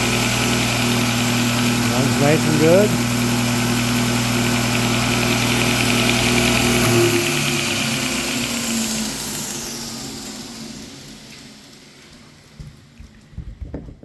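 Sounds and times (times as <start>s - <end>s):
belt grinder motor whirring: 0.0s - 11.7s.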